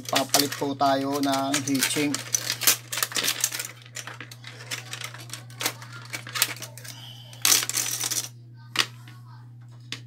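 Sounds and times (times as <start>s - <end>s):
computer parts clicking and clattering: 0.0s - 8.2s
steady low hum: 0.0s - 10.0s.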